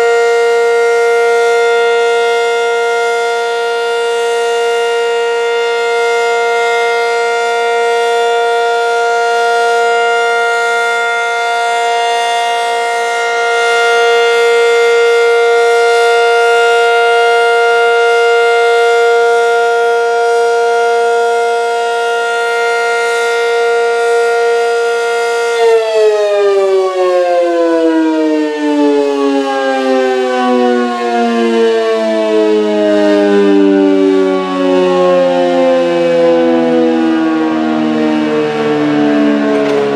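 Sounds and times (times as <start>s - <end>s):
warning siren: 0.0s - 39.9s.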